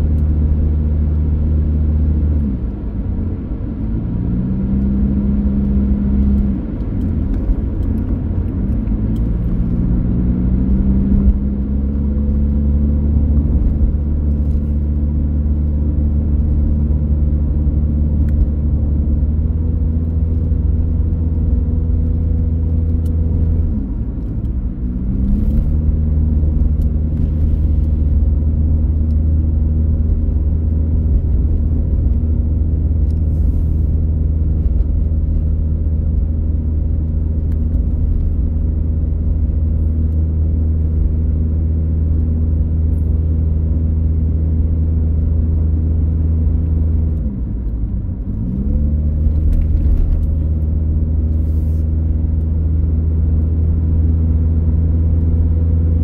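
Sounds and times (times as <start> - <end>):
car engine at road speed: 0.0 - 56.0.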